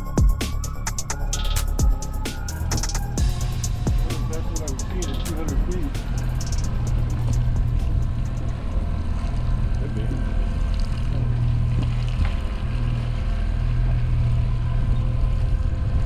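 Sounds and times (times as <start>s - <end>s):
boat engine humming: 0.0s - 14.9s.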